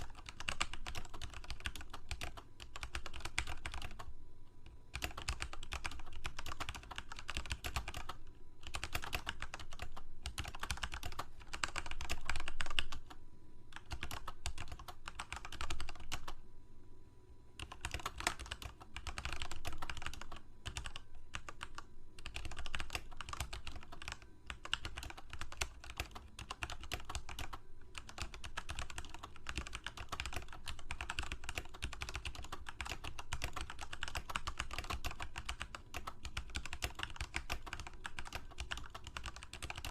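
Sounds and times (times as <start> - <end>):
computer keyboard typing: 0.0 - 16.4, 17.6 - 39.9.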